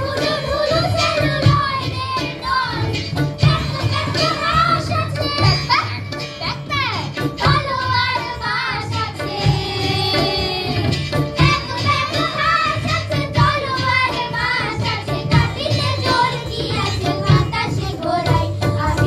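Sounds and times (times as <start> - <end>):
children's choir singing: 0.0 - 5.7, 7.4 - 19.0.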